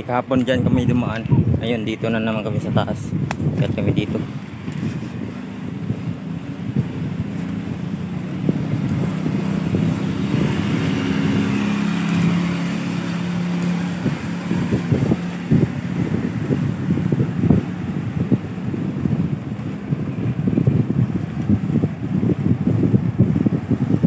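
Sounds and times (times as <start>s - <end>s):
wind buffeting microphone: 0.0s - 24.0s
motorcycle engine running: 0.7s - 24.0s.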